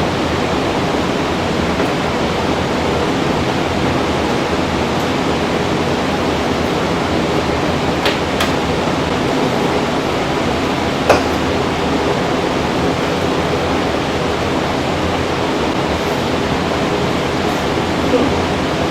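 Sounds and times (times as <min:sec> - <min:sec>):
steady rushing noise: 0:00.0 - 0:18.9.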